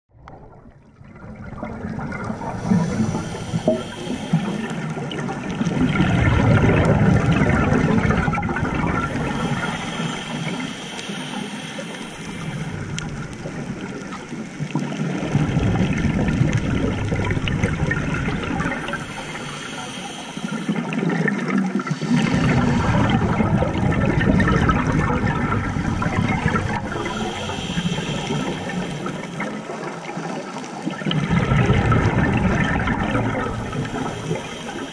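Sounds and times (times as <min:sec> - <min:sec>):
diver exhaling bubbles underwater: 0:00.2 - 0:34.9.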